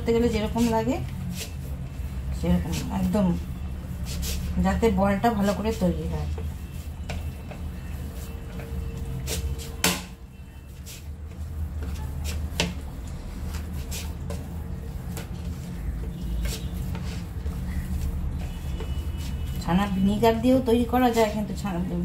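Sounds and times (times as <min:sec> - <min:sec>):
hand kneading dough on plate: 0:00.0 - 0:22.0.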